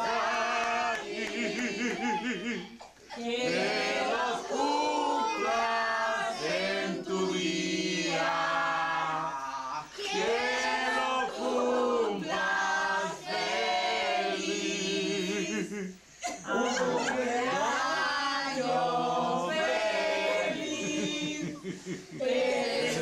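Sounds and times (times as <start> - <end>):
group singing birthday song: 0.0 - 23.0.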